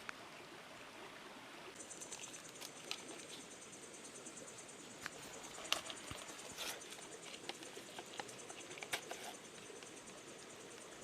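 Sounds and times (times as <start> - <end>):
flowing river water: 0.0 - 11.0
high insect trill: 1.8 - 11.0.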